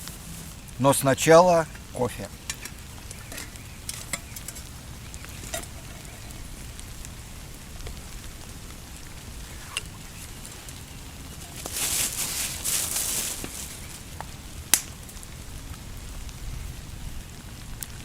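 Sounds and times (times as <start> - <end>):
campfire crackling: 0.0 - 18.0
sharp fire pops: 1.7 - 16.5.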